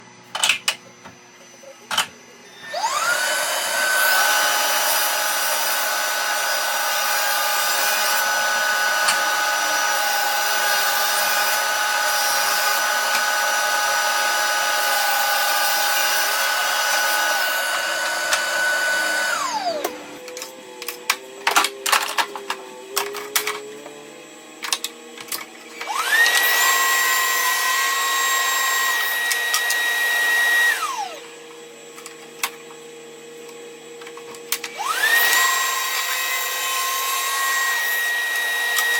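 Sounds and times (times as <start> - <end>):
table saw motor whining: 0.0 - 32.8, 33.4 - 38.9.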